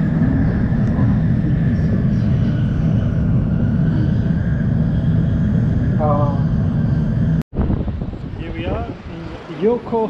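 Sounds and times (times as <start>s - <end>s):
loud low rumble: 0.0s - 9.5s.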